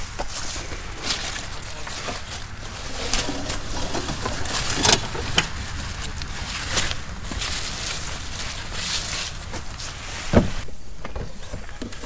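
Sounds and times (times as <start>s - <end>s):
steady low rumble: 0.0s - 10.7s
leaves and vines rustling: 0.0s - 12.0s.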